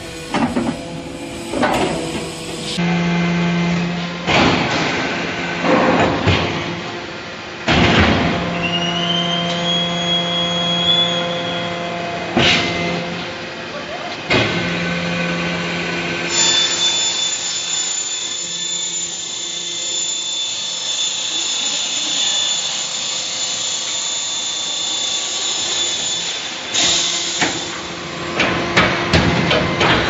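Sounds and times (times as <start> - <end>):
hydraulic baler hum and whine: 0.0 - 30.0.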